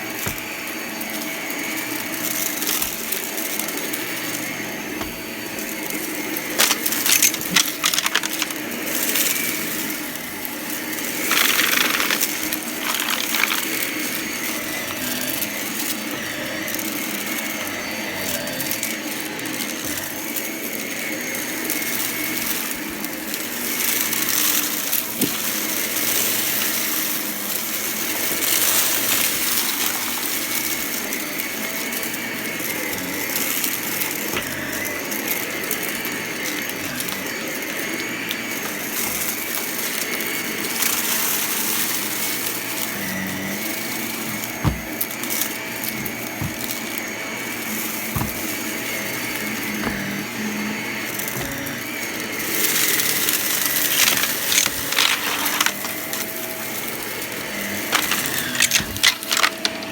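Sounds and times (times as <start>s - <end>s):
debris rattling through vacuum: 0.0s - 59.9s
vacuum cleaner running: 0.0s - 59.9s.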